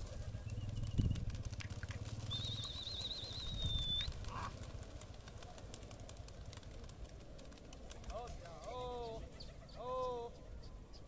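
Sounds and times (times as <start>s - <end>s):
open-air background noise: 0.0s - 11.0s.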